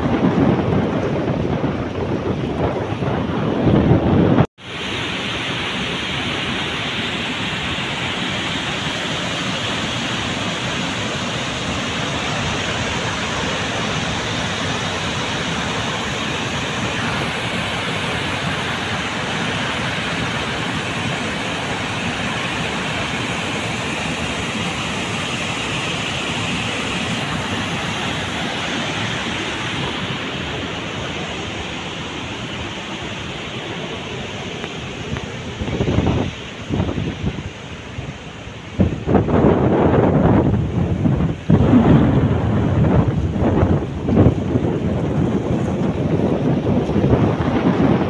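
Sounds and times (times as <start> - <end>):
water rushing through spillway: 0.0 - 48.0.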